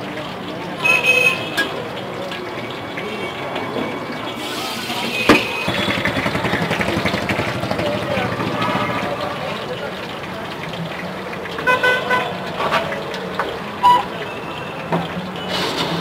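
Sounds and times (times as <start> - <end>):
voices: 0.0 - 15.5
food deep-frying in hot oil: 0.0 - 16.0
traffic: 0.0 - 16.0.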